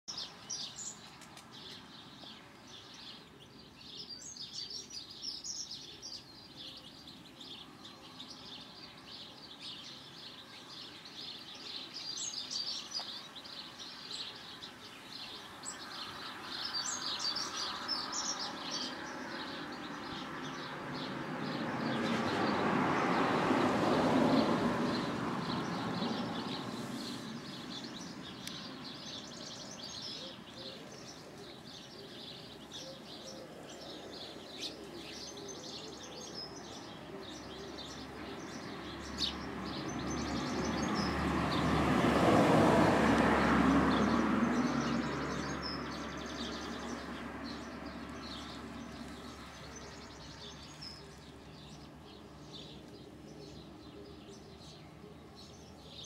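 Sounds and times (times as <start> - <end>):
birds chirping and singing: 0.1 - 23.2, 24.9 - 41.8, 43.9 - 56.0.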